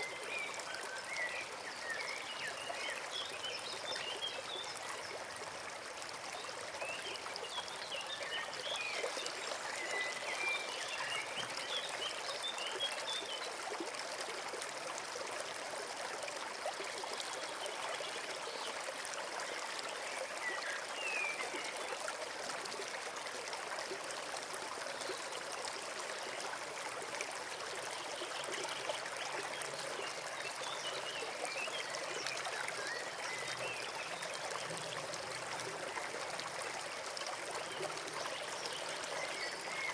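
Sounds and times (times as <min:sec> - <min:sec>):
brook trickling and babbling: 0:00.0 - 0:39.9.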